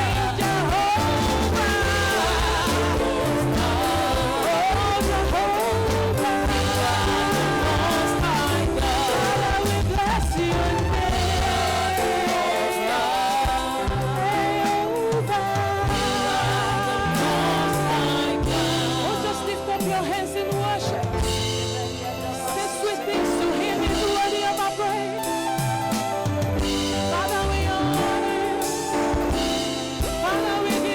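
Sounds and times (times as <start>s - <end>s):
band with bass and drums: 0.0s - 30.9s
voices singing gospel: 0.0s - 30.9s.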